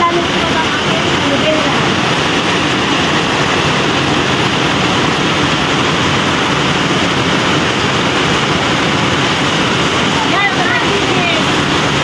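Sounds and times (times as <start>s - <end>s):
heavy rain on concrete: 0.0s - 12.0s.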